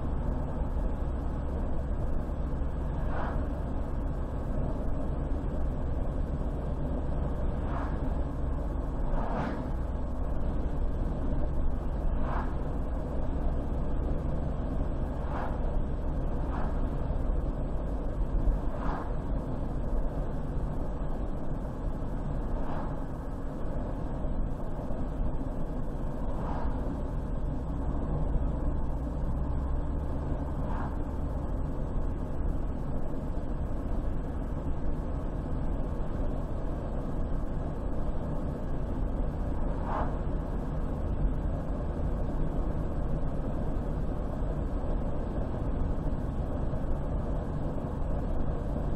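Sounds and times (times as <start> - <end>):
car engine and tyre noise: 0.0 - 48.9.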